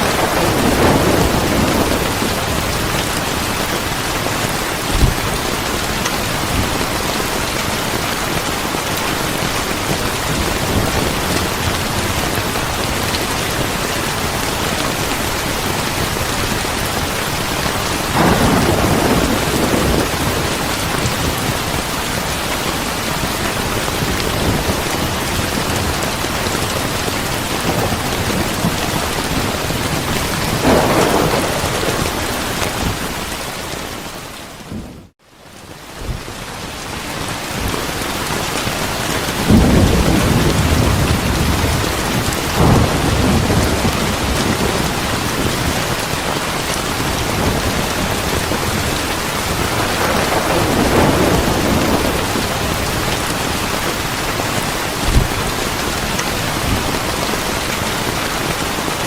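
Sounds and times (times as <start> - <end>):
rolling thunder: 0.0 - 22.6, 23.2 - 35.1, 39.3 - 46.2, 46.9 - 57.1
heavy rain: 0.0 - 59.0.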